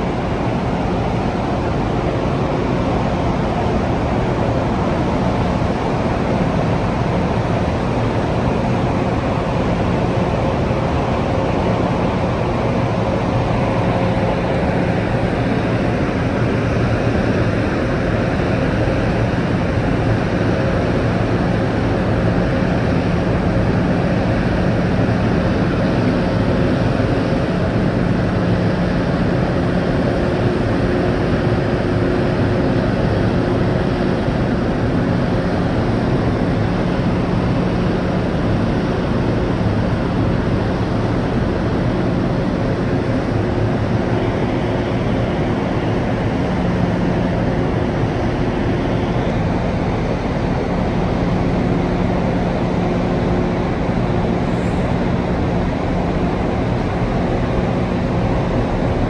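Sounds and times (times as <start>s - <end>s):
constant rushing noise: 0.0s - 59.0s
low machinery hum: 0.0s - 59.0s.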